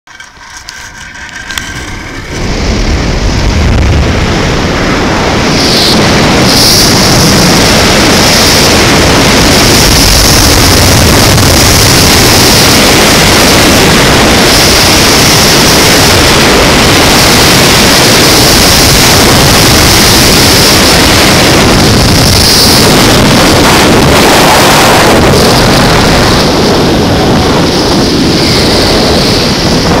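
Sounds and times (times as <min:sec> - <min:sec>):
wind buffeting microphone: 0:00.1 - 0:30.0
zip-line pulleys whirring: 0:00.1 - 0:30.0.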